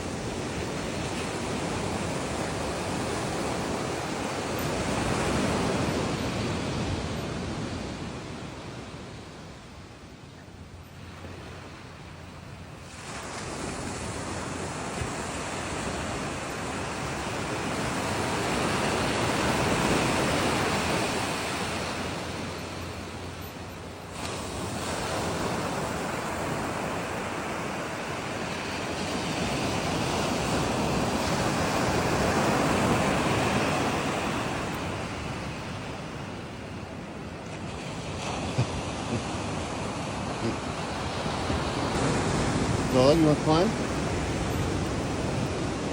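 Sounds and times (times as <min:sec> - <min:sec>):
small waves washing on beach: 0:00.0 - 0:45.9.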